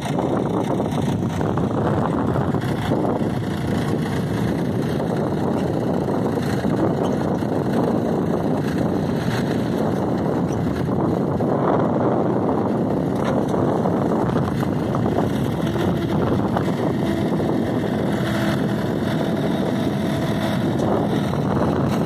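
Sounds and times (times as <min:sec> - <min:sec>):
stone picker working soil: 0:00.0 - 0:22.0
tractor engine running: 0:00.0 - 0:22.0.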